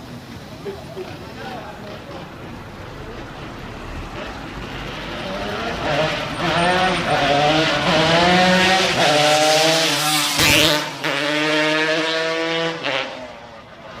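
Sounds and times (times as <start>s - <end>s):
two-stroke motorcycle engine revving: 1.5s - 13.5s.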